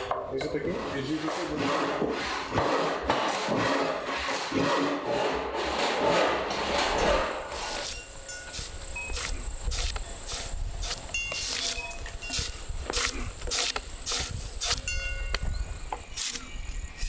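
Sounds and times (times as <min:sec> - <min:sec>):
hand tool scraping green wood: 0:00.0 - 0:16.6.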